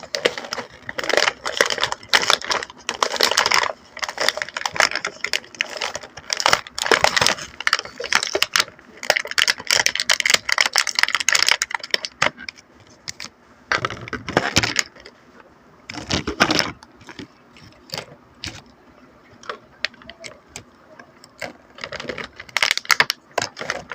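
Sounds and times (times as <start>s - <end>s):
plastic packaging crinkling: 0.0s - 15.1s, 15.9s - 23.9s.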